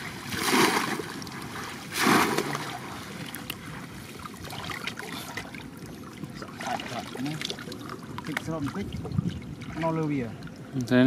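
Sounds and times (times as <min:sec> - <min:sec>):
water sloshing and trickling: 0:00.0 - 0:11.0
water splashing: 0:00.0 - 0:11.0.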